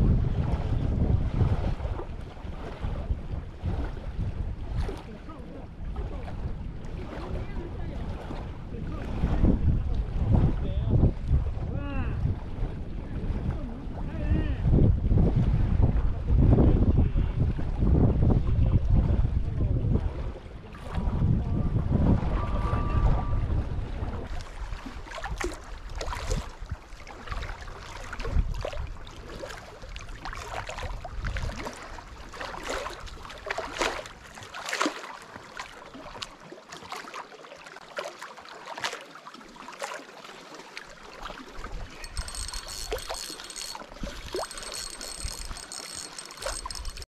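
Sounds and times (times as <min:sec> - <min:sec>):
water lapping against boat hull: 0:00.0 - 0:47.0.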